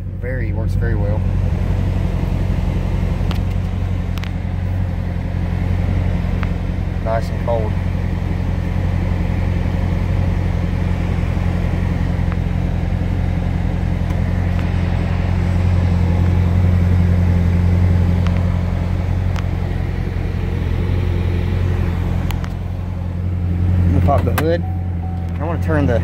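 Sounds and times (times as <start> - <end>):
car engine idling: 0.0 - 26.0
air-conditioning blowing: 0.2 - 26.0.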